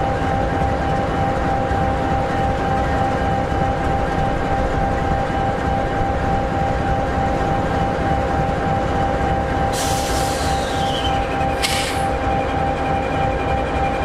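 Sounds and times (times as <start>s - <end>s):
diesel locomotive engine idling: 0.0s - 14.0s.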